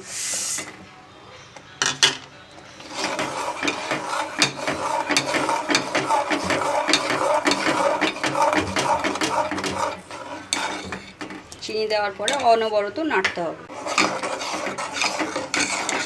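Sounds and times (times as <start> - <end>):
spoon scraping a pan: 0.2 - 16.0.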